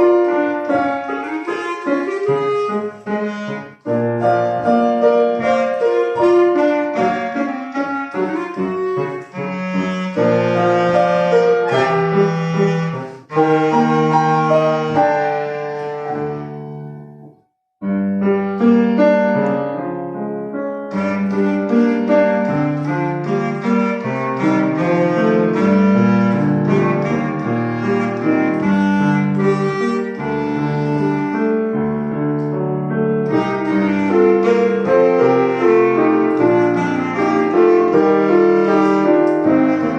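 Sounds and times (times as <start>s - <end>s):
piano accompaniment: 0.0s - 39.9s
solo wind instrument melody: 0.0s - 39.9s.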